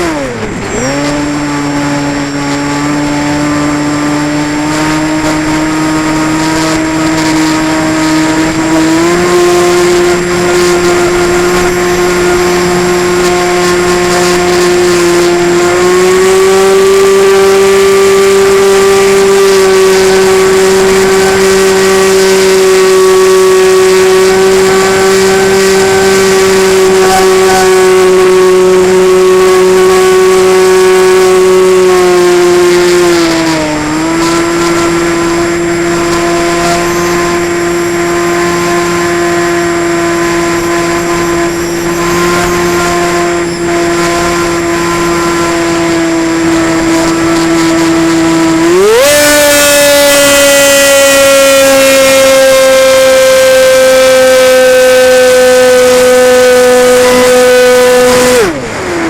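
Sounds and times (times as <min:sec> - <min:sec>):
model plane motor and propeller drone: 0:00.0 - 0:59.0.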